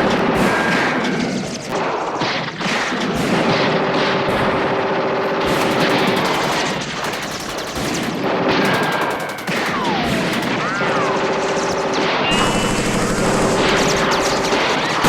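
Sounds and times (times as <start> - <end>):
machine-gun fire stutter: 0.0 - 15.0
overlapping gunfire: 0.0 - 15.0.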